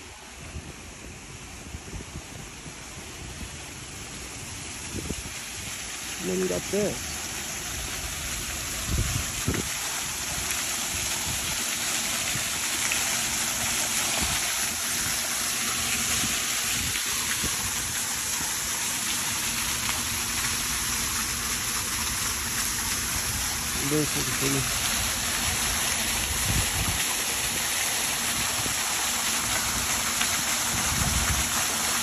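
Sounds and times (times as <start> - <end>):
waterfall splashing into pond: 0.0 - 32.0.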